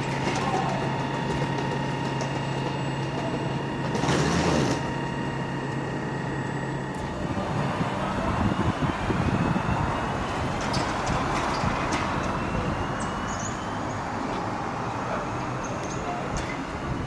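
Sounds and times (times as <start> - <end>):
electric train hum: 0.0 - 17.0
train whine rising: 0.8 - 17.0.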